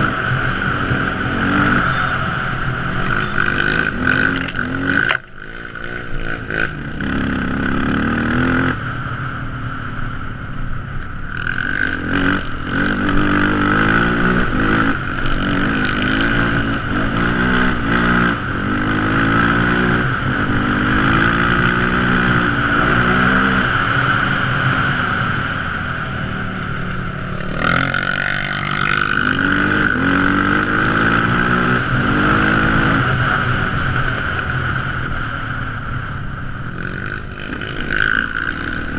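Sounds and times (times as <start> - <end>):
quad engine revving: 0.0 - 8.8, 11.4 - 25.4, 27.4 - 33.6, 36.8 - 38.9.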